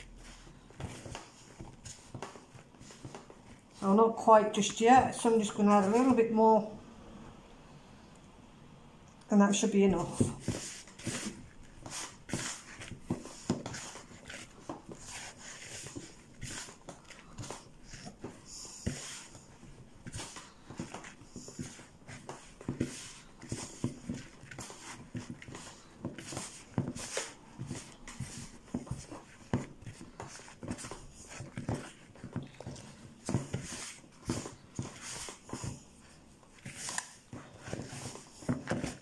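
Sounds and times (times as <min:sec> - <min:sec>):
hands kneading dough in a bowl: 0:00.0 - 0:06.8, 0:09.3 - 0:39.0.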